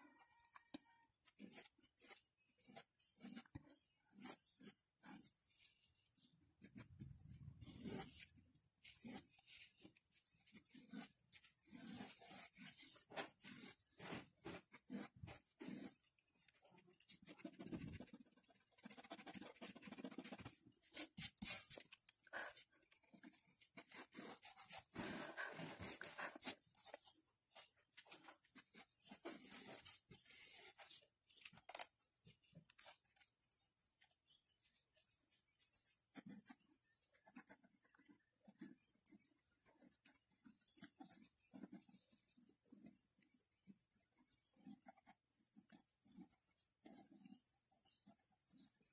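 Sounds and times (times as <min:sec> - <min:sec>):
pencil sketching on paper: 0:00.0 - 0:31.0, 0:34.5 - 0:48.9.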